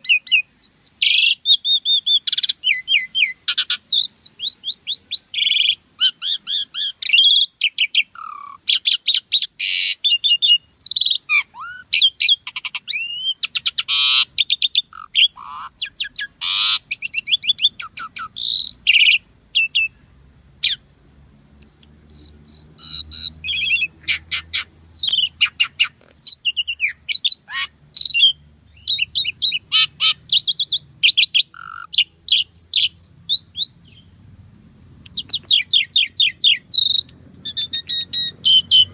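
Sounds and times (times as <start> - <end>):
starling singing and chattering: 0.0 - 20.0, 20.6 - 20.9, 21.6 - 34.2, 35.0 - 38.9.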